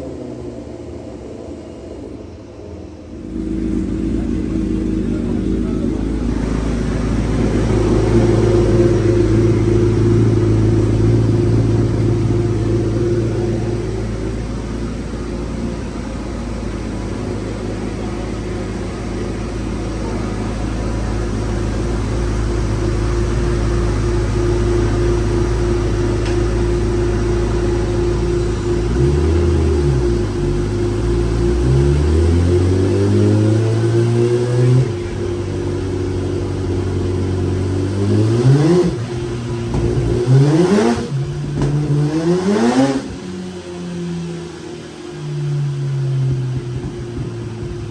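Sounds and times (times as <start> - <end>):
motorcycle engine revving: 3.0 - 47.9.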